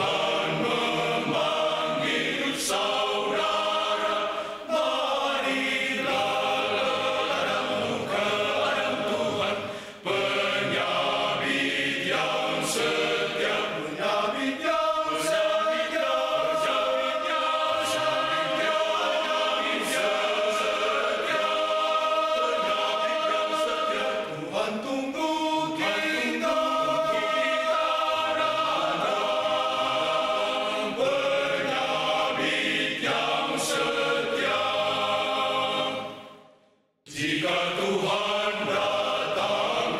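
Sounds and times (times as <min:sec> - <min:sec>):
men's choir singing in harmony: 0:00.0 - 0:36.5, 0:37.1 - 0:39.9.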